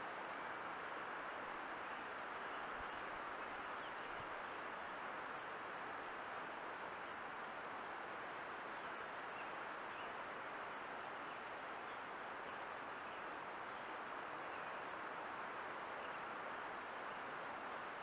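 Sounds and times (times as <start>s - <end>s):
microphone hiss: 0.0s - 18.0s.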